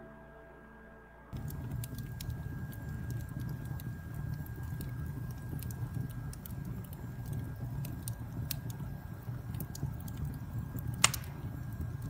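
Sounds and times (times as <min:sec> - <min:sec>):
campfire crackling and popping: 0:01.3 - 0:12.0
low steady rumble: 0:01.4 - 0:12.0.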